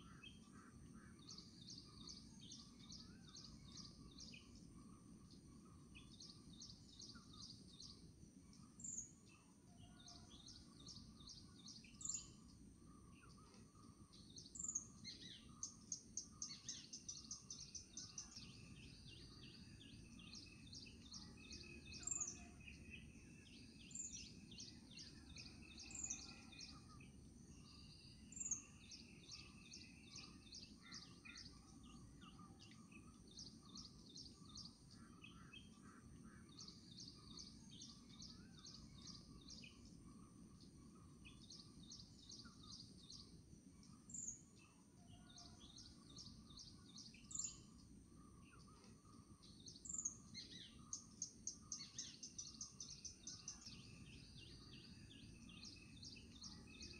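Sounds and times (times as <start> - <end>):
low steady background noise: 0.0 - 56.9
songbirds chirping: 0.0 - 56.9.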